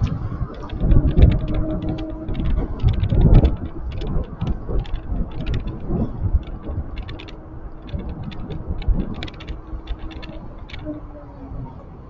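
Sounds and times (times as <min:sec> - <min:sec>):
handlebar mount rattling clicks: 0:00.0 - 0:11.0
wind rumbling on microphone: 0:00.0 - 0:12.0.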